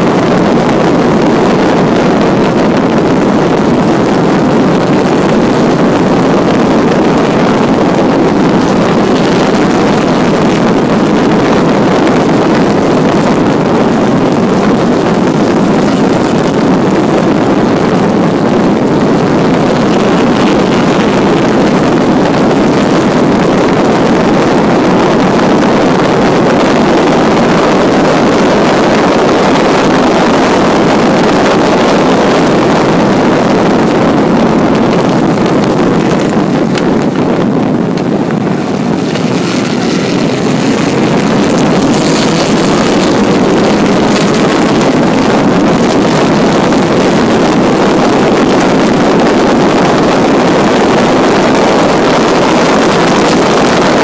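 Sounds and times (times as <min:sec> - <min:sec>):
racing car engine: 0:00.0 - 0:54.0
wind noise on microphone: 0:00.0 - 0:54.0.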